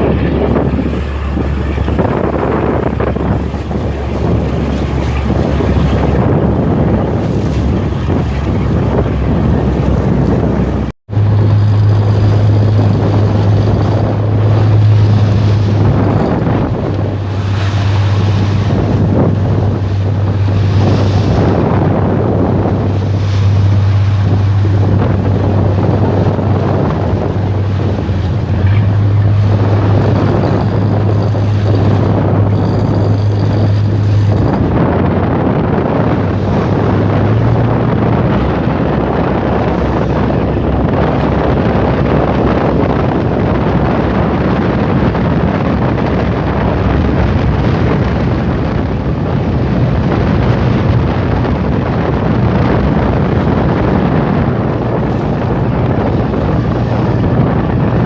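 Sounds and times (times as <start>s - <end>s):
boat engine running: 0.0s - 58.0s
rushing water: 0.0s - 58.0s
wind on microphone: 0.0s - 58.0s.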